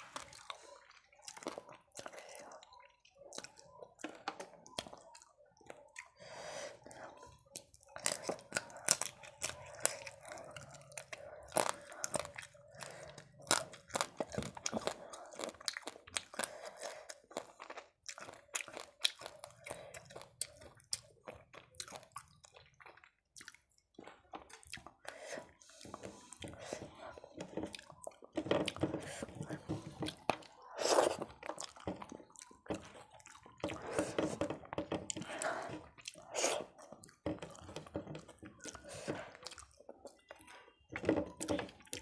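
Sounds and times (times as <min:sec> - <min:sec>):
chewing with crisp crunches: 0:00.0 - 0:42.0.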